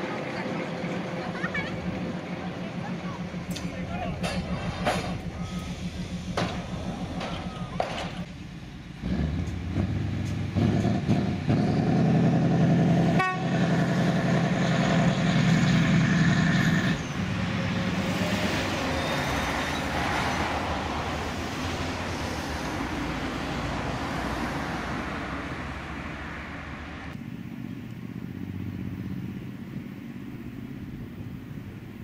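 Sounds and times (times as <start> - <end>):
locomotive diesel engine: 0.0 - 32.0.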